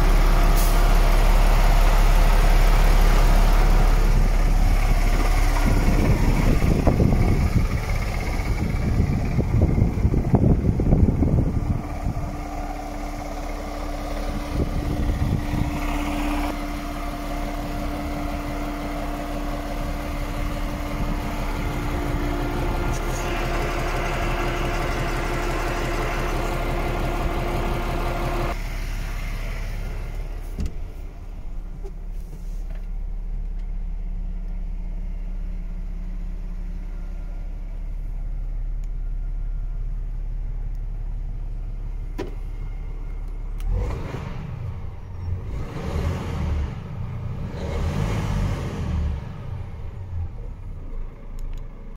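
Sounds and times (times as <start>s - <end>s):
diesel truck engine idling: 0.0s - 51.9s
engine whine: 0.0s - 51.9s.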